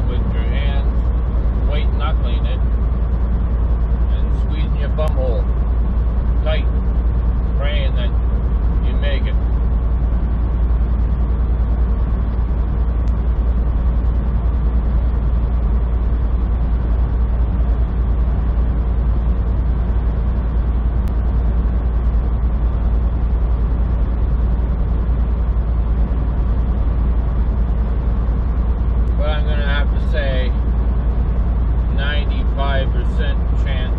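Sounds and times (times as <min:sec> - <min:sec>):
road noise: 0:00.0 - 0:33.9
truck diesel engine droning: 0:00.0 - 0:33.9.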